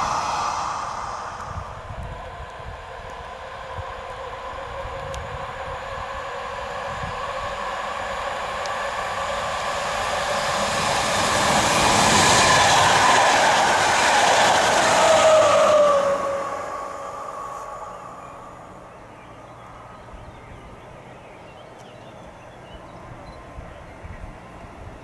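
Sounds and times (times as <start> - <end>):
train passing on rails: 0.0 - 20.0
locomotive whine: 0.0 - 20.1.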